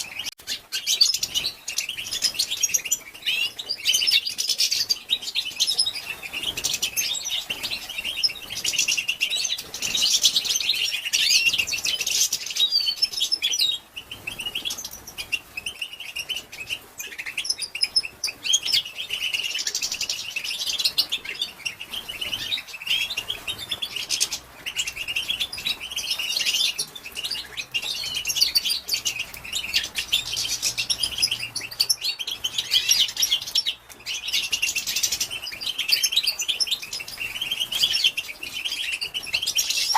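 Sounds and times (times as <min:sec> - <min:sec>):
goldfinch twittering: 0:00.0 - 0:39.9.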